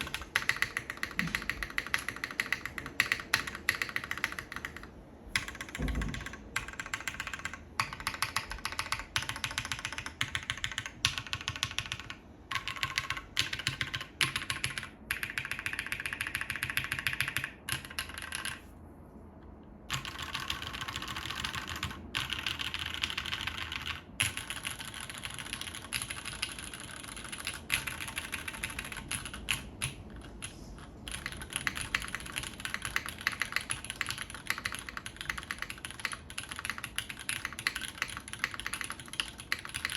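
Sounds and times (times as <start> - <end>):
mechanical keyboard typing: 0.0 - 18.7, 19.9 - 39.9.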